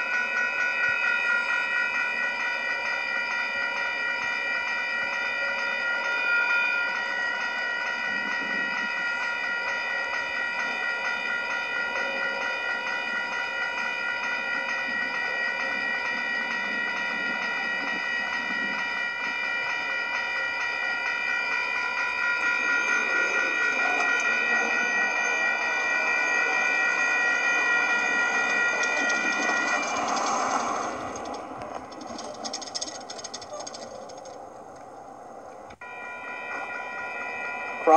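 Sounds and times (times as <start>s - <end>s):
crossing warning bell ringing: 0.0s - 37.9s.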